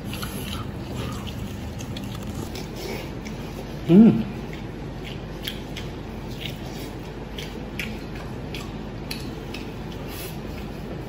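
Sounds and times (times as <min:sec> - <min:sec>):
low background hum: 0:00.0 - 0:11.0
person chewing with mouth smacks: 0:00.0 - 0:11.0.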